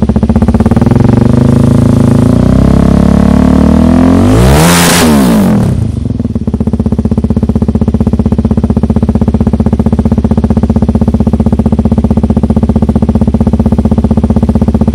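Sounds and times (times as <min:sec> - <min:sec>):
motorcycle engine idling: 0:00.0 - 0:04.1, 0:05.1 - 0:14.9.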